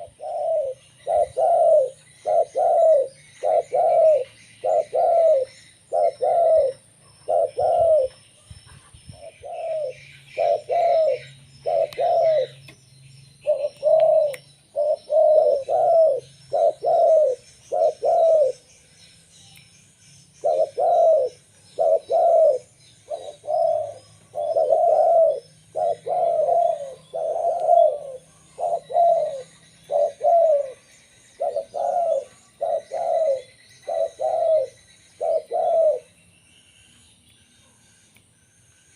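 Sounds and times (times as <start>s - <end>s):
dove cooing: 0.0s - 12.7s, 13.4s - 18.7s, 20.4s - 36.1s
small birds chirping: 0.0s - 38.9s.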